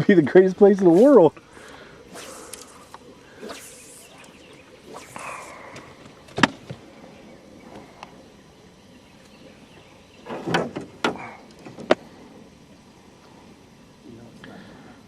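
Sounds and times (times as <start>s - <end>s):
quiet outdoor background: 0.0s - 15.0s.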